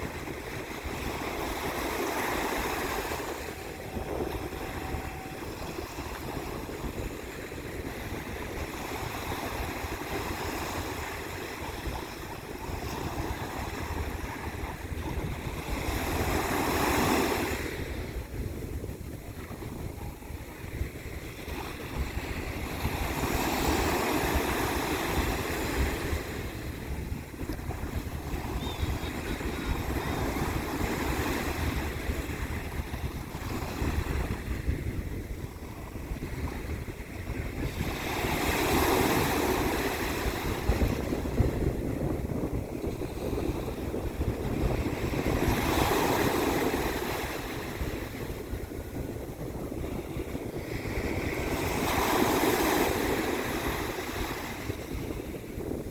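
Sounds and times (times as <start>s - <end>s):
wind rumbling on microphone: 0.0s - 55.9s.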